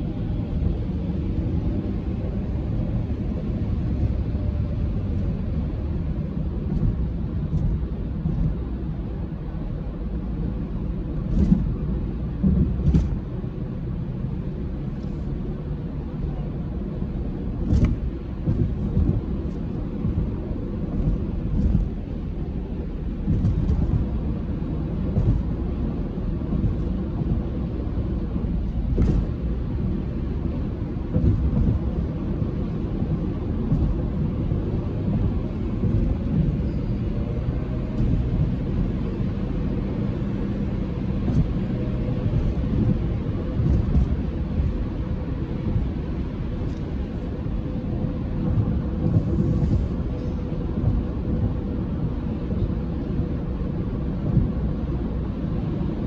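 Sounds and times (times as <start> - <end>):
car cabin road rumble: 0.0 - 56.0.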